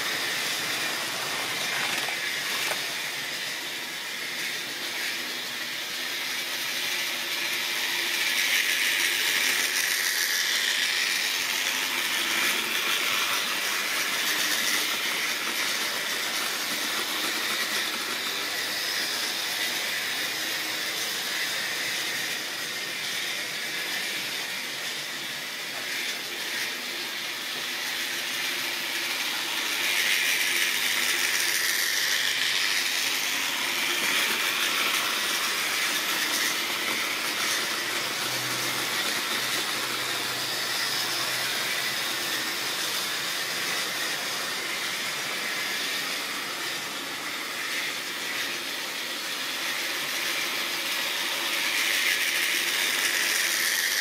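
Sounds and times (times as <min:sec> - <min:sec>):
model trains whirring on track: 0:00.0 - 0:54.0.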